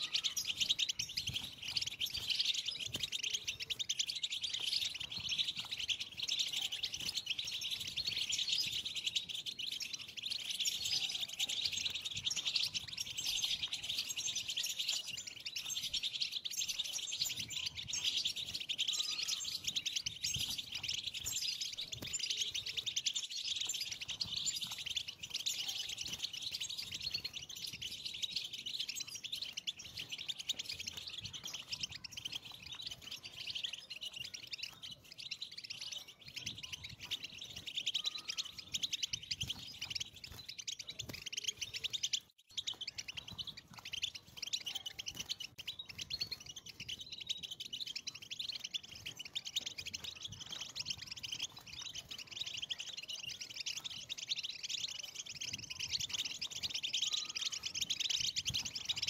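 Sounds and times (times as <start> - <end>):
goldfinches twittering: 0.0 - 59.0.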